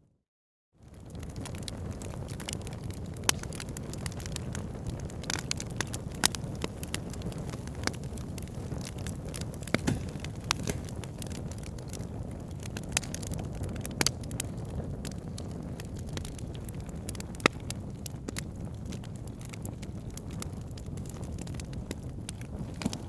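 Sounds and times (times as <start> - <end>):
fire crackling in a fireplace: 0.8 - 23.0.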